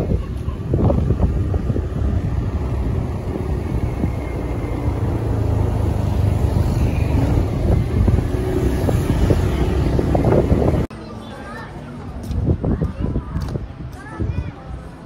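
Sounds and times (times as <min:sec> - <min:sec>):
wind buffeting microphone: 0:00.0 - 0:10.9, 0:12.1 - 0:14.6
low road rumble: 0:00.0 - 0:15.0.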